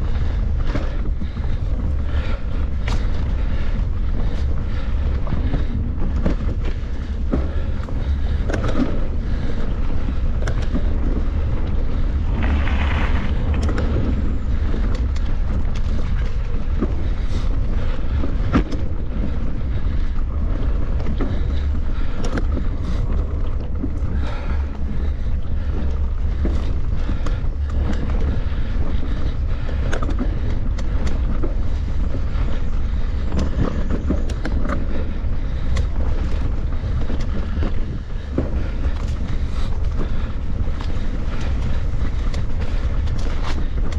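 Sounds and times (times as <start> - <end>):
bike clicks and rattles: 0.0 - 43.9
wind rumbling on microphone: 0.0 - 43.9.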